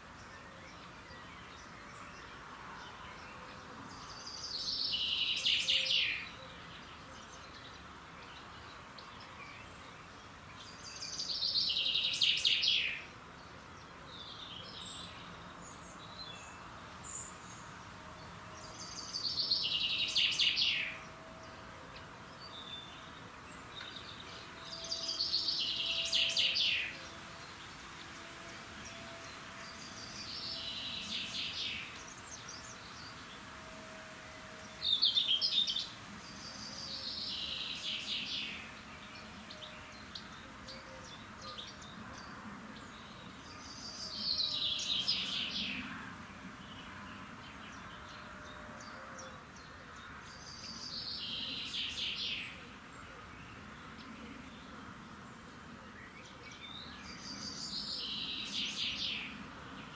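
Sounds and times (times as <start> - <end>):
faint outdoor hiss: 0.0 - 59.9.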